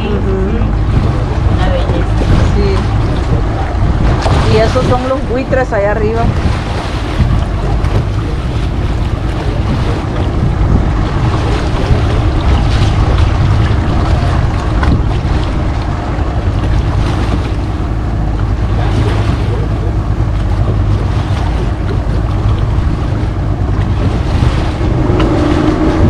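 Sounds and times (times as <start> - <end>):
boat engine running: 0.0 - 26.0
water rushing past hull: 0.0 - 26.0
wind buffeting microphone: 0.0 - 26.0.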